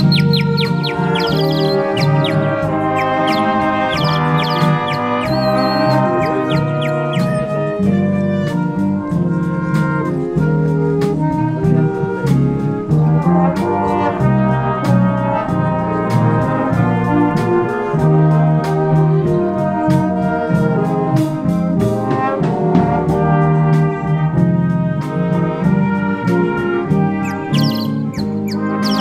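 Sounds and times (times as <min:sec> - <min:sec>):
big band swing ballad: 0:00.0 - 0:29.0.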